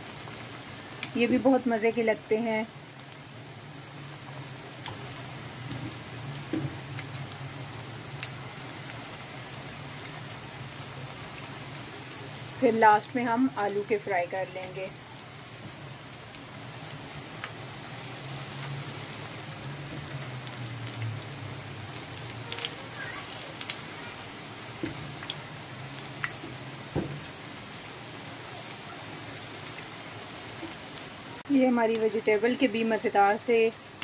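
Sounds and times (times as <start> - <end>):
hot oil sizzling and crackling: 0.0 - 34.0.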